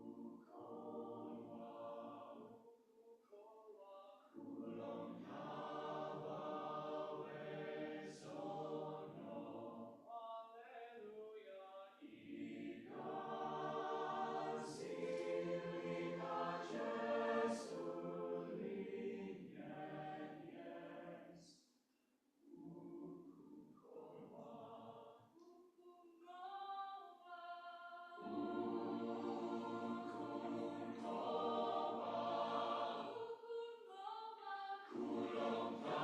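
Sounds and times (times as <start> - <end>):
choir singing in chords: 0.0 - 2.8, 3.6 - 10.1, 11.9 - 21.6, 22.4 - 25.3, 27.1 - 36.0.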